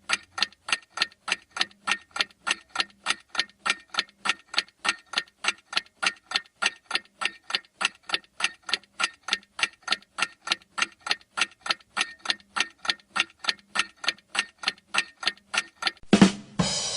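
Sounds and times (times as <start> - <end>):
clock-like ticking: 0.0 - 16.1.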